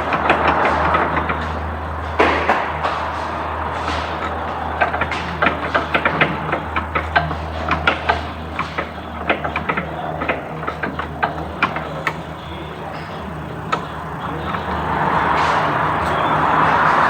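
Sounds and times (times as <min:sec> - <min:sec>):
hand tools tapping on metal: 0:00.0 - 0:17.0.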